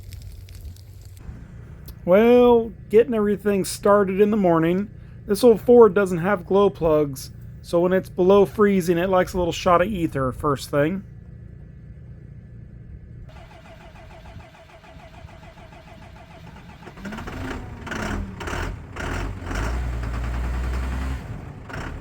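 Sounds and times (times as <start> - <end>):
diesel tractor engine cranking: 1.0 - 12.4, 13.0 - 22.0
diesel engine running: 1.2 - 22.0.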